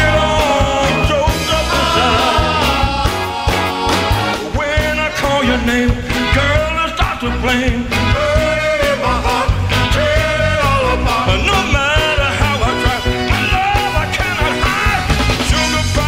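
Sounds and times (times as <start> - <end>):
band playing soul song: 0.0 - 16.0
person singing: 0.0 - 16.0.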